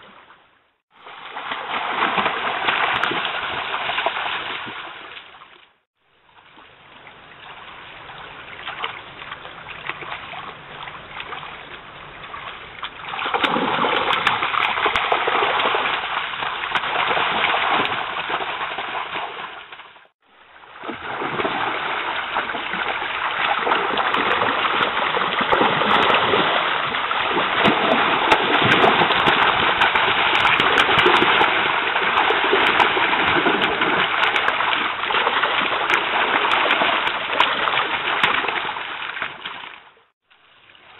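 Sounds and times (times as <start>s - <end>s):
bear splashing in water: 0.9s - 5.8s, 7.4s - 40.1s
stream running over stones: 0.9s - 40.9s.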